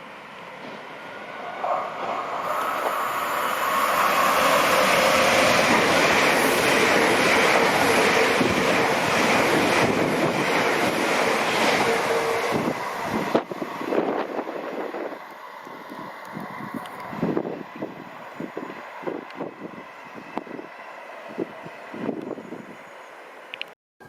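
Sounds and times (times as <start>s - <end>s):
train passing: 0.0s - 23.6s.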